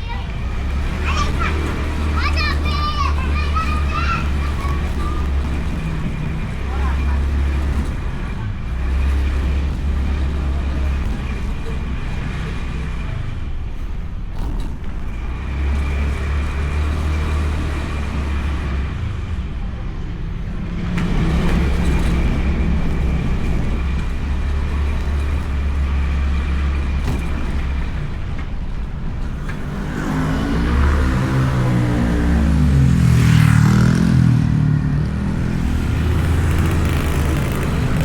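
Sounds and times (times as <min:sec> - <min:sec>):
road noise: 0:00.0 - 0:38.0
scooter engine: 0:00.0 - 0:38.0.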